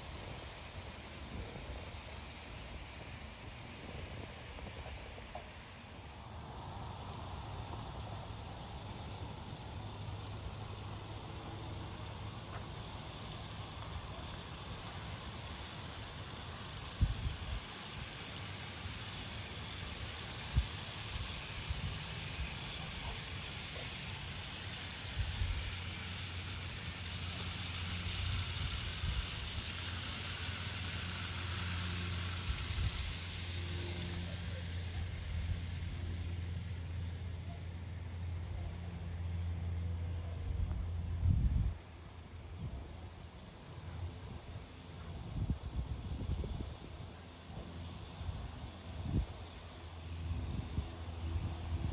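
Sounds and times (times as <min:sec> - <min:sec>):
toy trains whirring on track: 0:00.0 - 0:51.9.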